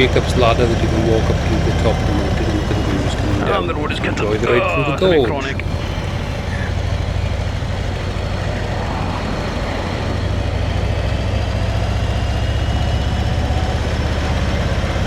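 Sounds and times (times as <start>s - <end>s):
motorcycle engine drone: 0.0s - 15.0s
road and wind noise: 0.0s - 15.0s.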